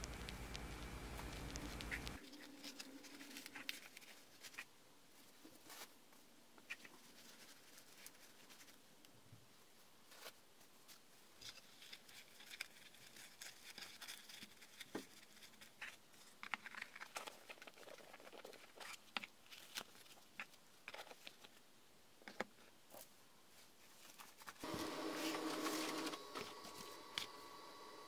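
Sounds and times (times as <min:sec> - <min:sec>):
soft rustling: 0:00.0 - 0:21.6, 0:22.2 - 0:28.0.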